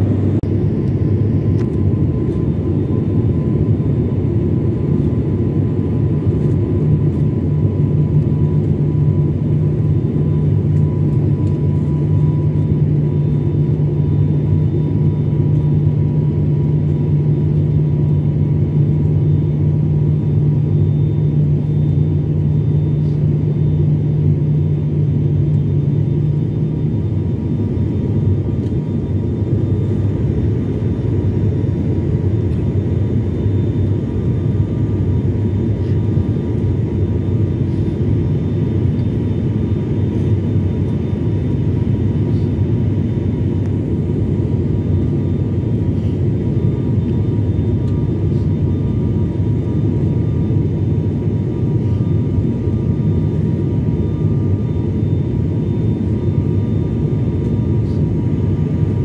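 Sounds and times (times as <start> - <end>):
propeller plane cabin drone: 0.0 - 59.0.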